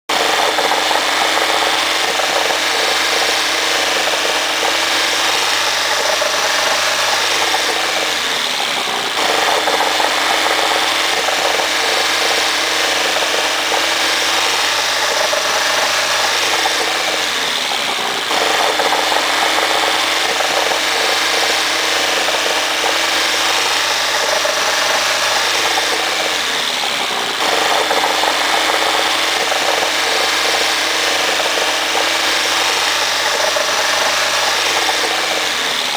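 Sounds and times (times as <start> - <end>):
car engine running: 0.1 - 35.9.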